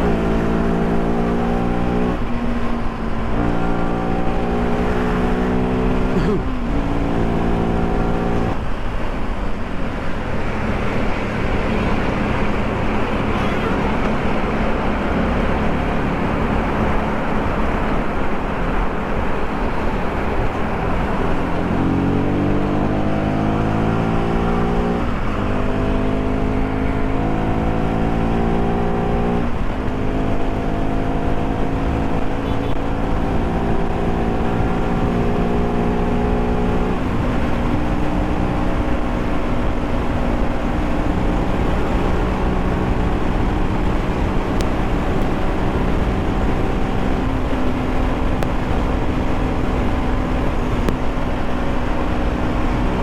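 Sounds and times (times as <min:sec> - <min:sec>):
motorcycle engine accelerating: 0:00.0 - 0:08.6, 0:09.6 - 0:53.0.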